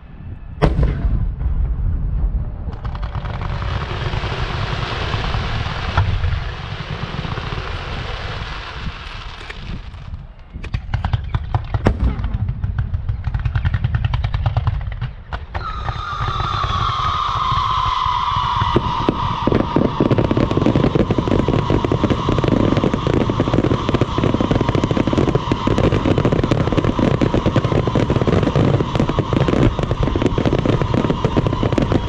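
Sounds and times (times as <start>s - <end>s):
loud firework bang: 0.6s - 10.0s, 10.6s - 32.0s
fireworks crackling: 2.4s - 32.0s.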